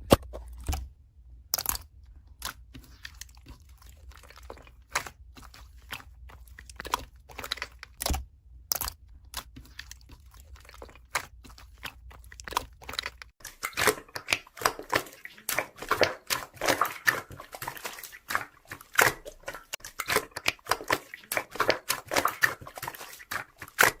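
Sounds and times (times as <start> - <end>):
slime squelching and popping: 0.0 - 24.0.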